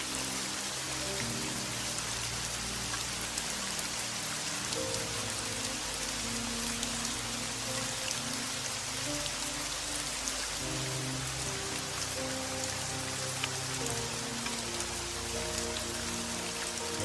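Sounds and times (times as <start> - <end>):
slow music of held low notes: 0.0 - 17.0
steady rain falling: 0.0 - 17.0.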